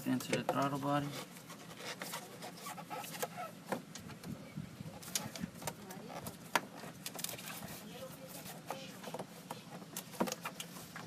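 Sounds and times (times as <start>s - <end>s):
plastic duct clicks and rubs: 0.2s - 11.0s.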